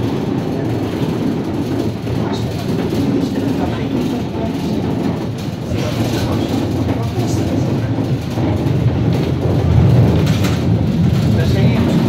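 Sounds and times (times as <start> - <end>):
tram clicks: 0.0 - 12.0
tram rumbling on rails: 0.0 - 12.0.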